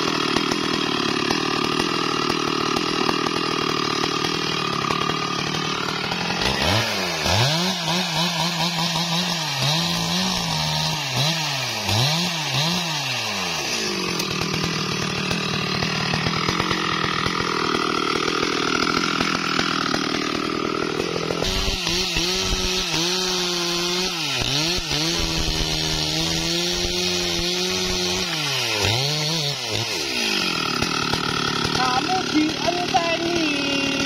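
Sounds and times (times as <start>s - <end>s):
chainsaw cutting log: 0.0s - 34.0s.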